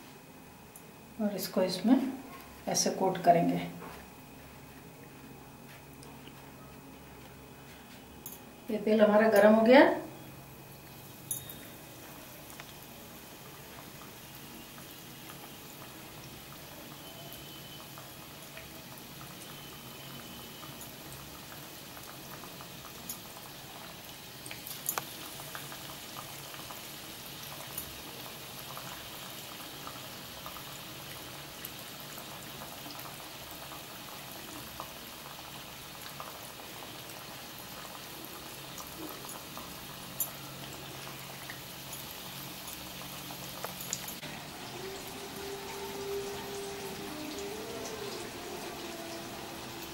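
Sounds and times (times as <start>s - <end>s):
food deep-frying in hot oil: 8.4s - 49.9s.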